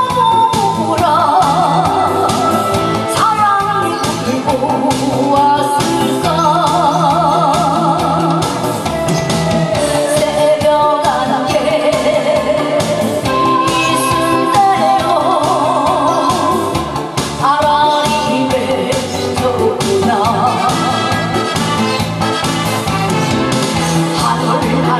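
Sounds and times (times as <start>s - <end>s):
woman singing with vibrato: 0.0s - 8.9s, 9.7s - 22.0s, 24.1s - 24.9s
amplified band with steady beat: 0.0s - 24.9s.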